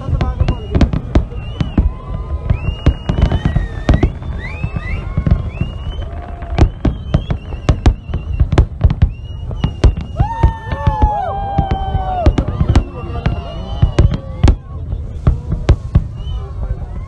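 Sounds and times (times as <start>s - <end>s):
fireworks bangs and crackles: 0.0s - 17.0s
gliding whistle-like tones: 0.2s - 10.8s, 12.0s - 15.1s, 15.9s - 17.0s.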